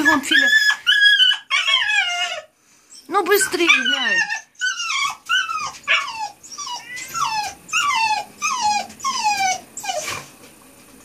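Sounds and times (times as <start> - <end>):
dog whining: 0.0 - 10.3.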